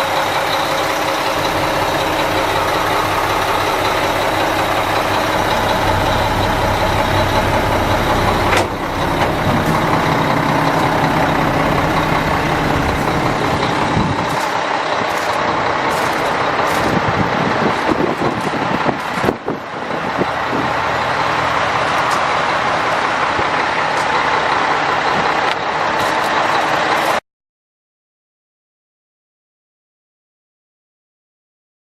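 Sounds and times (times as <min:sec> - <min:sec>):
diesel truck engine running: 0:00.0 - 0:27.2.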